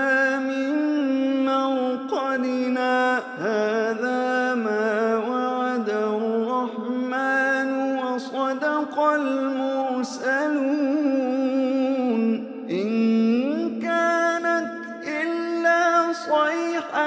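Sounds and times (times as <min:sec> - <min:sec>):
man chanting recitation: 0:00.0 - 0:17.0.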